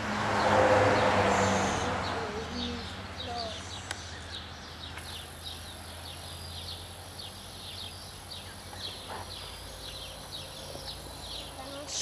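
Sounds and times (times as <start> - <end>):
small birds chirping: 0.4 - 12.0.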